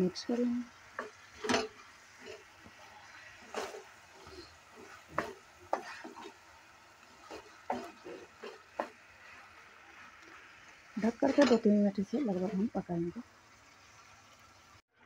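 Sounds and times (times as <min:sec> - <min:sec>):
faint frying sizzle: 0:00.0 - 0:14.8
spatula scraping pan: 0:00.2 - 0:12.8.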